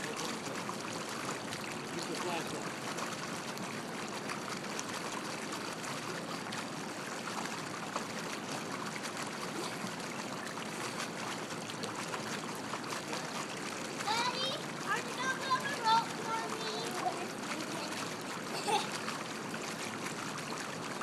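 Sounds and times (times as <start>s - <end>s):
pool water lapping and splashing: 0.0s - 21.0s
water drips: 0.0s - 21.0s.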